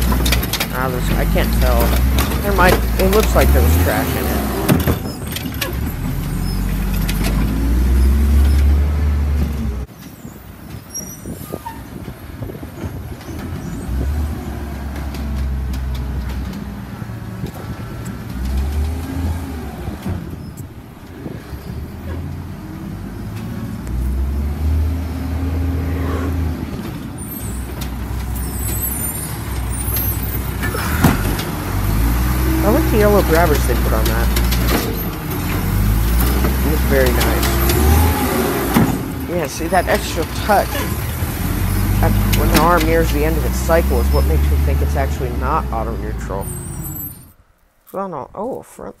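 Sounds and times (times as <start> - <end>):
diesel engine revving: 0.0 - 9.9, 11.5 - 47.4.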